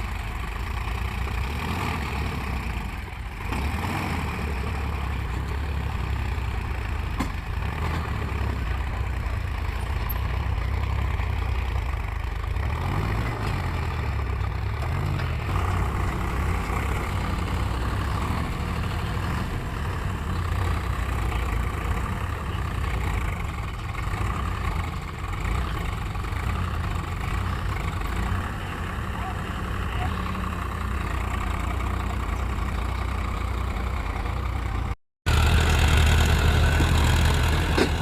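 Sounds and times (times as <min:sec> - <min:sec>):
heavy vehicle engine idling: 0:00.0 - 0:38.0.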